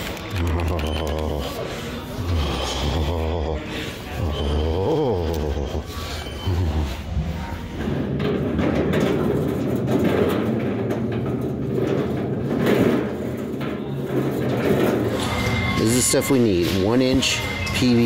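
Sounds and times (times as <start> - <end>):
cart wheels rumbling on concrete: 0.0 - 18.0
metal cart frame rattling: 0.0 - 18.0.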